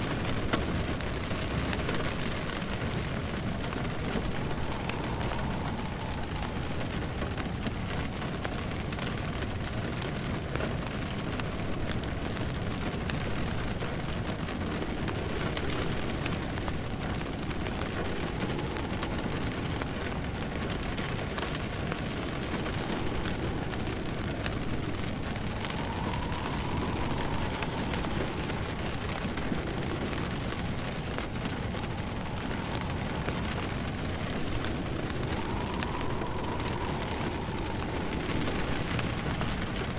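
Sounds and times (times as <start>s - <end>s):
rain pattering: 0.0s - 39.9s
wind howling: 0.0s - 39.9s
wood fire crackling: 0.0s - 39.9s.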